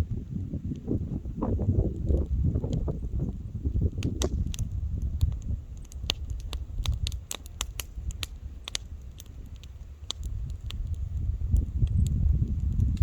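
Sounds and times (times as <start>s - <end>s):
campfire pops and snaps: 0.0s - 13.0s
fire low rumble: 0.0s - 13.0s.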